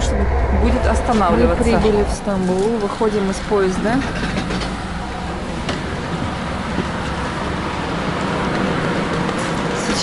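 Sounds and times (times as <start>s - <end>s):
low train hum: 0.0s - 10.0s.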